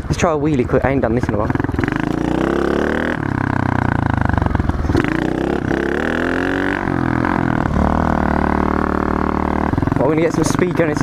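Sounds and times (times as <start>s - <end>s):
pit bike engine revving: 0.6s - 11.0s.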